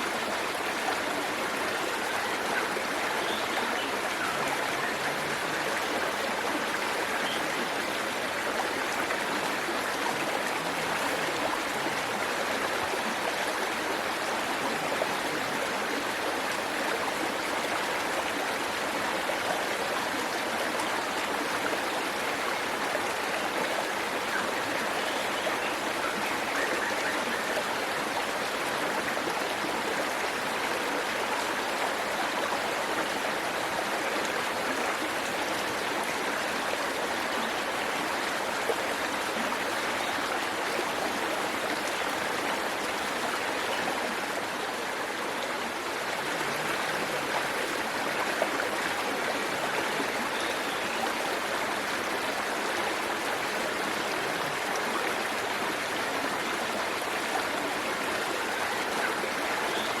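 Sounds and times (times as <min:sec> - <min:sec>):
waterfall rushing and splashing: 0:00.0 - 1:00.0.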